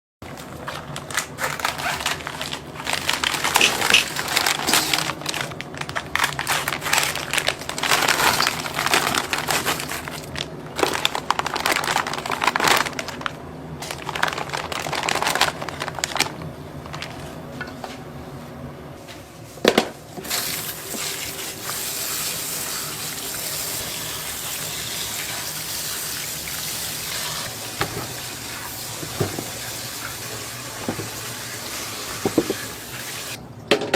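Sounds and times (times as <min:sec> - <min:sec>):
food preparation clattering: 0:00.6 - 0:17.8, 0:19.6 - 0:33.9.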